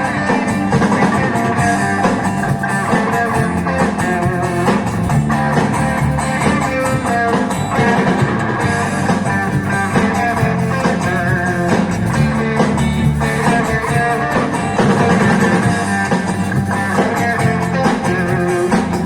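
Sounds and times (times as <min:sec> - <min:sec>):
instrumental rock band music: 0:00.0 - 0:19.0.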